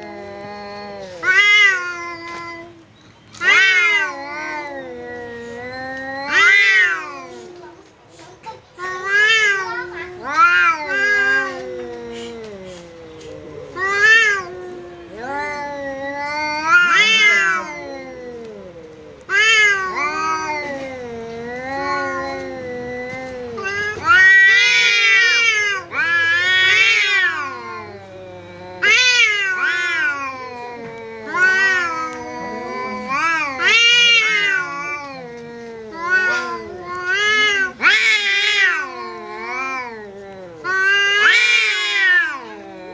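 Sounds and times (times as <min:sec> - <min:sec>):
cats yowling: 0:00.0 - 0:08.0, 0:08.6 - 0:42.9.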